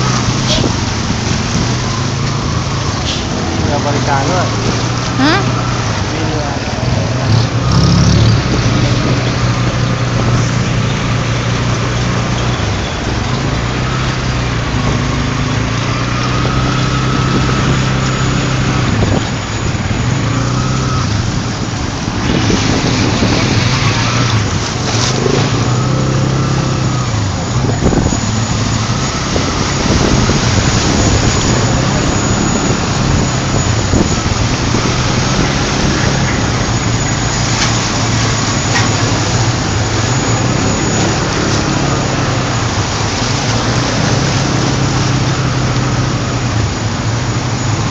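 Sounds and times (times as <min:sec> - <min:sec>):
vehicle engine running: 0:00.0 - 0:47.9
water rushing and splashing: 0:00.0 - 0:47.9.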